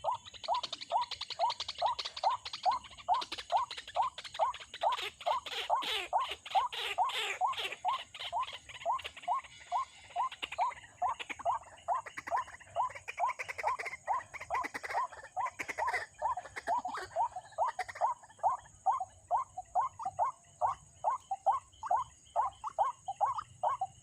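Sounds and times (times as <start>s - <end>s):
bird croaking calls: 0.0s - 24.0s
harsh high bird calls: 0.0s - 24.0s.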